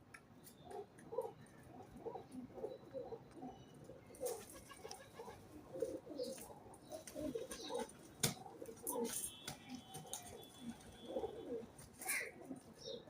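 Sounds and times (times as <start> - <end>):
pigeons cooing: 0.6 - 9.2, 9.8 - 13.0.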